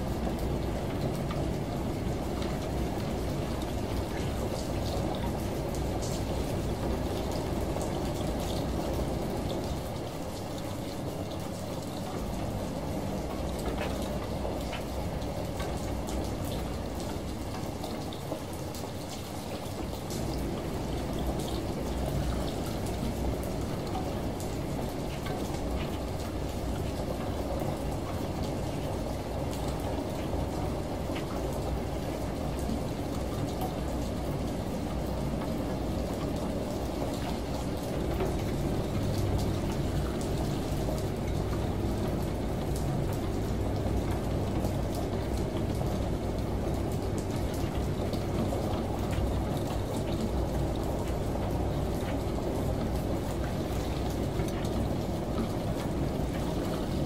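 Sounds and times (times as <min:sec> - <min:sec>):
rain patter: 0:00.0 - 0:57.0
shower water running: 0:00.0 - 0:57.0
washing machine hum: 0:00.0 - 0:57.0.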